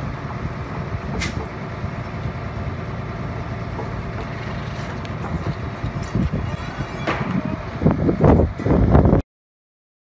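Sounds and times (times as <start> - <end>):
truck engine idling: 0.0 - 9.2.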